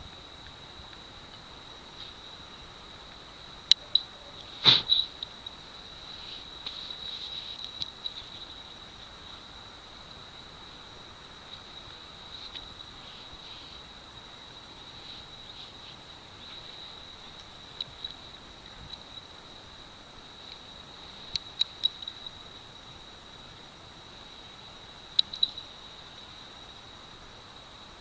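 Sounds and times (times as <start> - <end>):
cricket trilling: 0.0 - 28.0.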